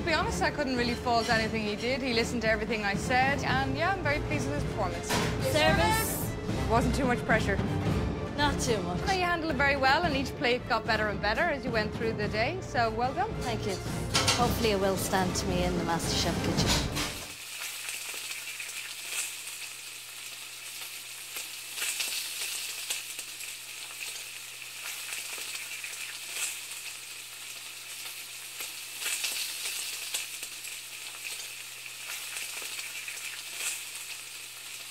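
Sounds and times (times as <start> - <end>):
food sizzling in a pan: 0.0 - 7.6, 8.6 - 34.9.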